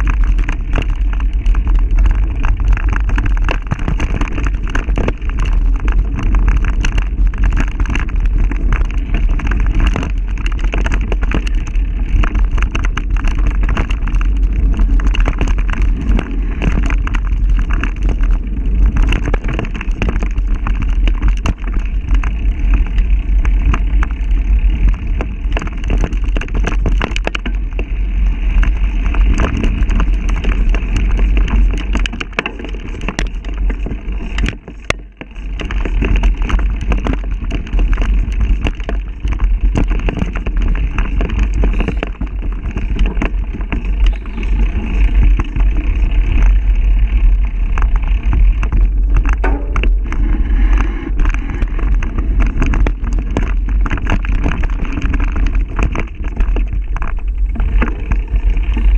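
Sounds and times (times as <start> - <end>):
bike rattling and knocking: 0.0 - 58.9
low rumble: 0.0 - 58.9
wind buffeting microphone: 0.0 - 58.9.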